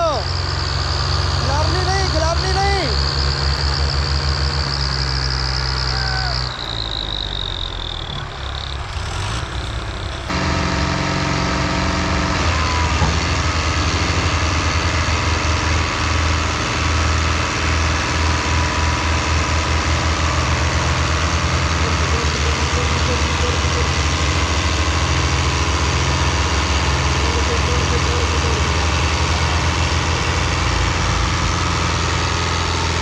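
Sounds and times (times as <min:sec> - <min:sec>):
high whine: 0:00.0 - 0:09.0, 0:09.6 - 0:33.0
tractor diesel engines running hard: 0:00.0 - 0:33.0.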